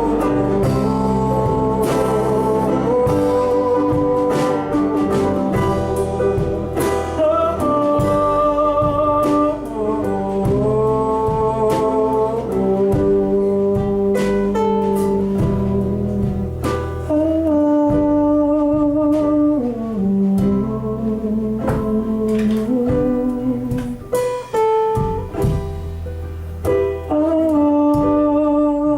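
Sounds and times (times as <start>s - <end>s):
live band playing: 0.0s - 28.9s.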